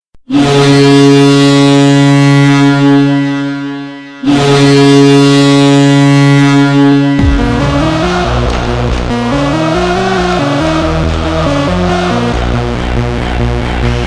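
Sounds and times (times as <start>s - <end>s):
deep goal horn blaring: 0.3s - 13.5s.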